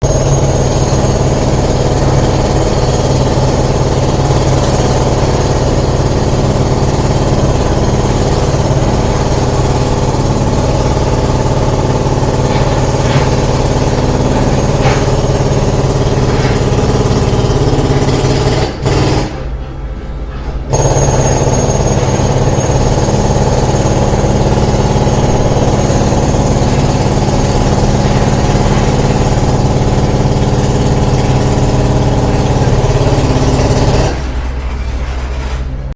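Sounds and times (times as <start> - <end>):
heavy machine engine running: 0.0 - 35.9.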